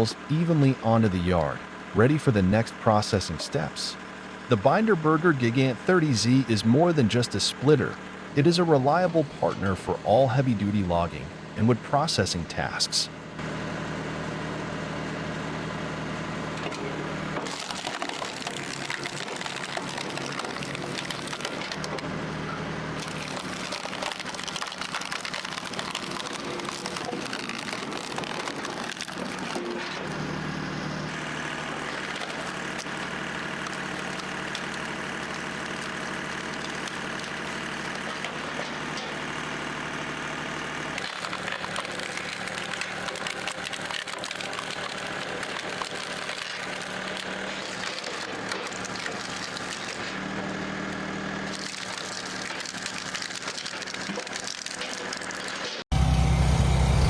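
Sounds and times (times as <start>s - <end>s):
log splitter engine running: 0.0s - 57.0s.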